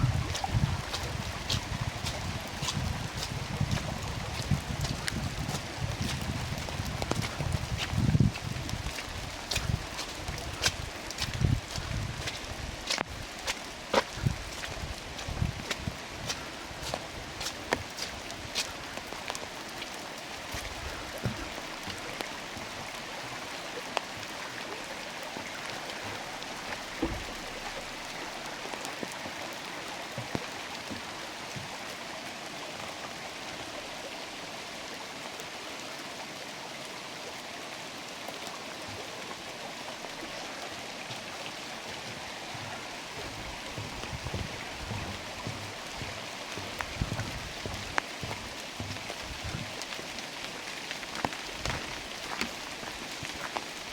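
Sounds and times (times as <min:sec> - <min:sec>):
rain falling in forest: 0:00.0 - 0:53.9
sharp water drips: 0:00.0 - 0:53.9.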